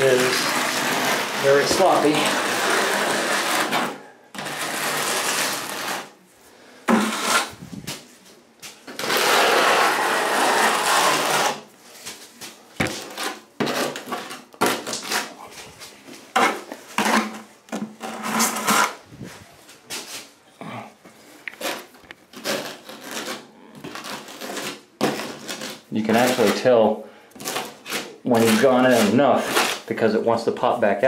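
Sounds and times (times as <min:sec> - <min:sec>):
trowel scraping mortar: 0:00.0 - 0:06.2, 0:06.9 - 0:08.0, 0:08.8 - 0:12.1, 0:12.8 - 0:19.0, 0:21.5 - 0:29.9.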